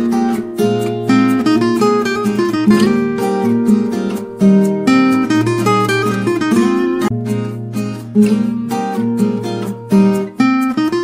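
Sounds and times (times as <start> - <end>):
acoustic guitar melody: 0.0 - 11.0.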